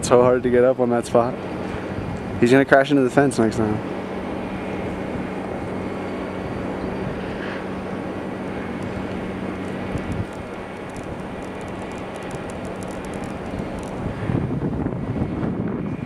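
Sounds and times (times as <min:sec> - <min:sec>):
motor drone: 0:00.0 - 0:16.0.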